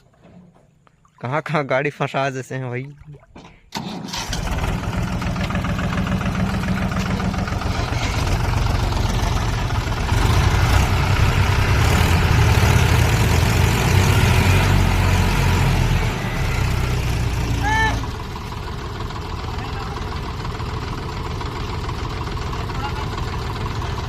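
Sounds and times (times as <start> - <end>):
tractor diesel engine running: 3.7 - 24.0.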